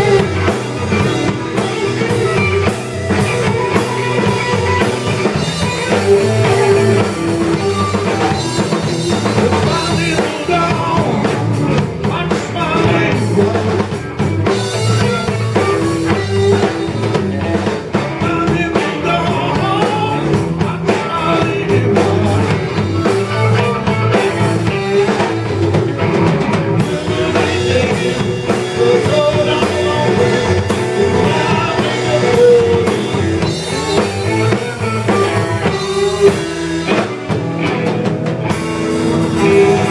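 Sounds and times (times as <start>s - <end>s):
man singing: 0.0s - 37.8s, 38.8s - 39.9s
blues band playing: 0.0s - 39.9s
drum kit: 0.0s - 39.9s
electric guitars: 0.0s - 39.9s.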